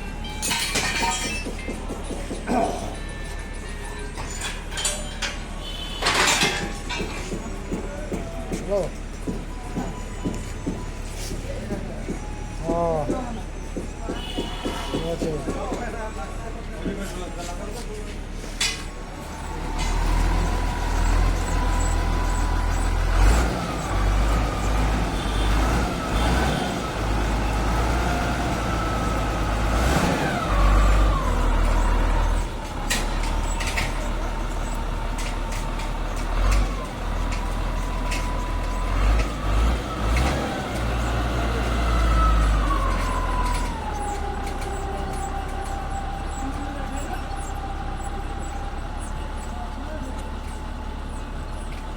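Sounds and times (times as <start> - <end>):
truck engine whine: 0.0 - 51.9
deep engine rumble: 2.5 - 51.9.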